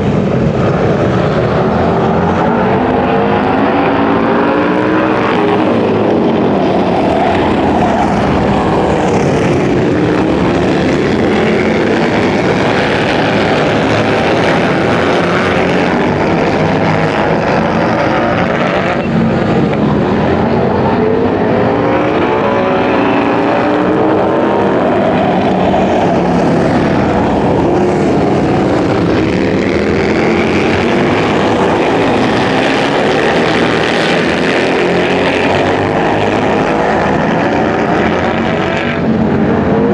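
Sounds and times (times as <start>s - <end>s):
racing motorcycle engines: 0.0s - 39.9s.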